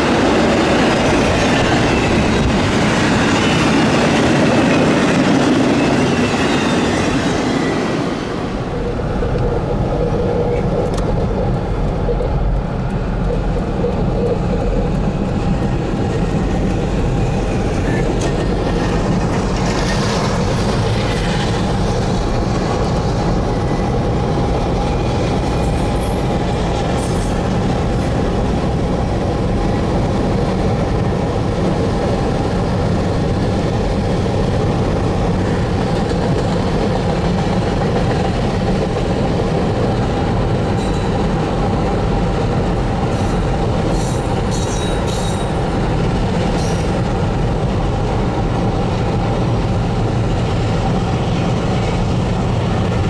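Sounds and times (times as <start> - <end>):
freight train rumbling past: 0.0 - 53.0
wheels clickety-clack: 9.2 - 53.0.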